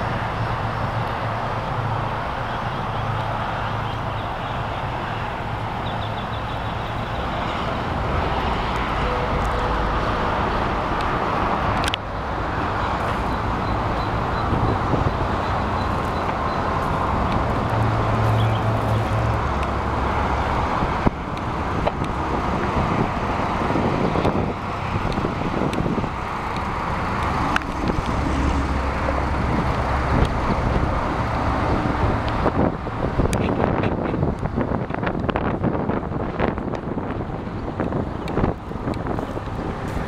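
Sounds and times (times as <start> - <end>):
vehicle rumble: 0.0 - 40.0
wind noise on microphone: 0.0 - 40.0.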